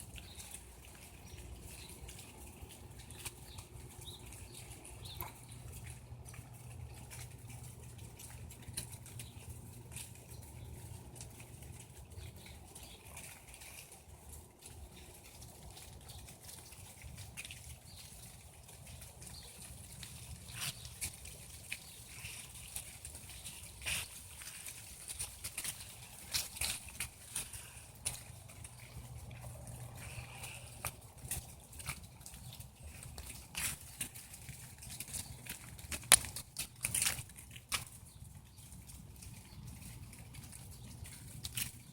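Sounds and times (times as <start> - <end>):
leaves ticking and rustling: 0.0 - 41.9.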